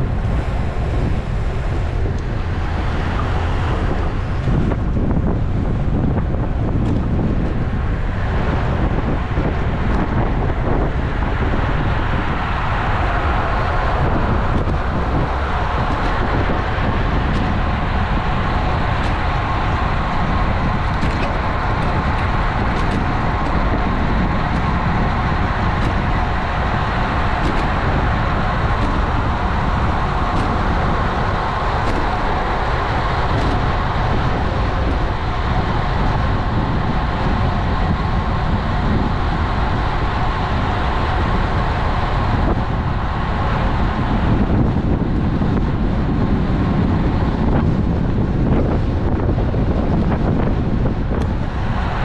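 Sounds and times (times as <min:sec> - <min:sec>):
wind and road noise: 0:00.0 - 0:52.0.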